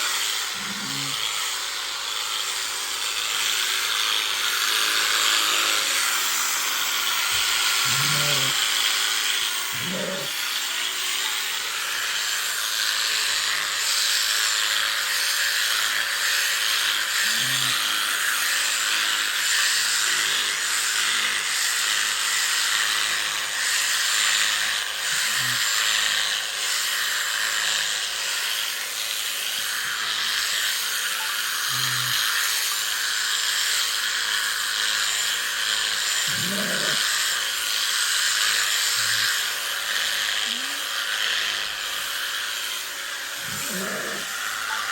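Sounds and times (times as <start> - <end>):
electric shearing clipper buzzing: 0.0 - 44.9.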